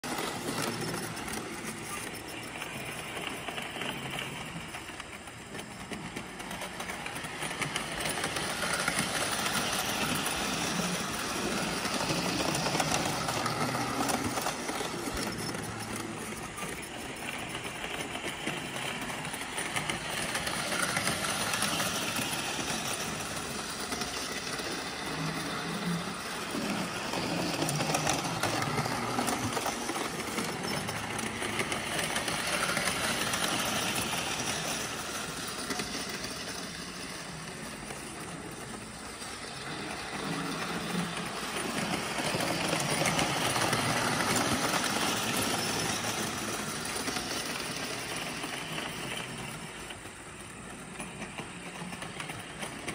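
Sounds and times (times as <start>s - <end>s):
locomotive motors whirring: 0.0s - 52.9s
toy train wheels clattering on rails: 0.0s - 52.9s.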